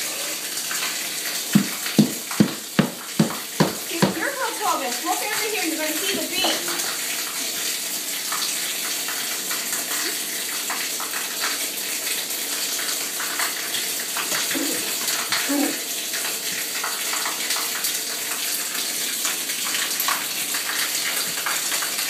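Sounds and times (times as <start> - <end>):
running water hiss: 0.0 - 22.0.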